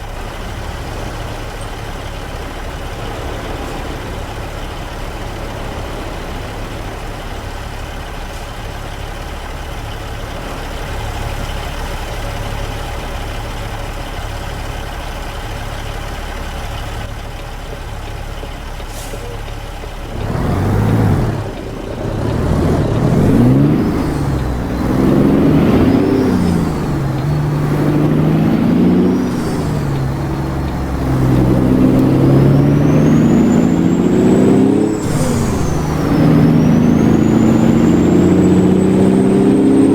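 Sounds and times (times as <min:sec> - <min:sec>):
truck engine idling and pulling away: 0:00.0 - 0:39.9.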